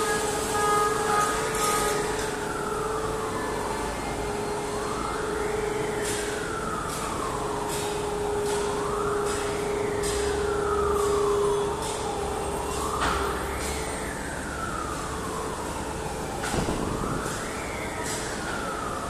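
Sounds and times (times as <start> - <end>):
machinery hum: 0.0 - 19.0
wailing warning siren: 0.0 - 19.0.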